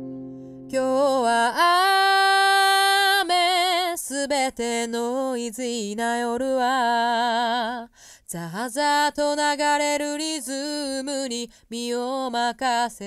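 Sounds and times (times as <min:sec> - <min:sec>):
woman singing alone: 0:00.6 - 0:13.0.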